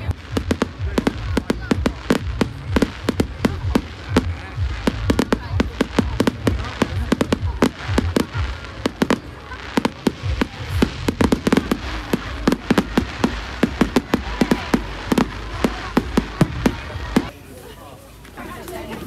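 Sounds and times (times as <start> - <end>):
fireworks bangs and crackles: 0.0 - 17.4.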